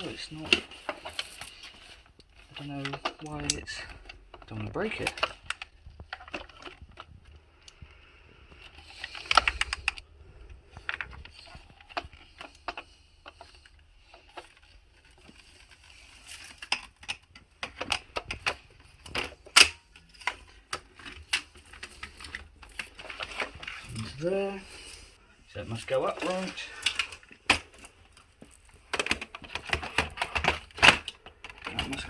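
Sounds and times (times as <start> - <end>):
plastic parts clicking and knocking: 0.0 - 7.9, 8.5 - 10.0, 10.7 - 24.2, 26.1 - 32.0.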